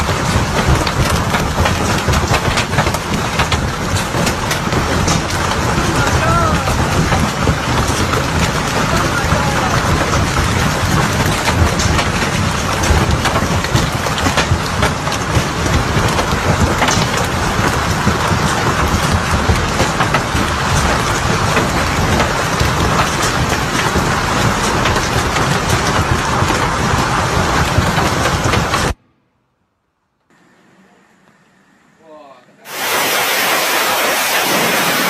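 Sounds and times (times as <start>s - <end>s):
hail clattering: 0.0s - 29.0s, 32.7s - 35.0s
wind rumbling: 0.0s - 29.0s.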